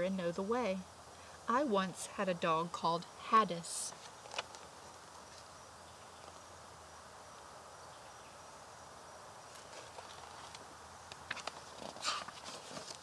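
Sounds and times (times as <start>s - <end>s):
faint steady hiss: 0.0s - 13.0s
high insect tone: 0.0s - 13.0s.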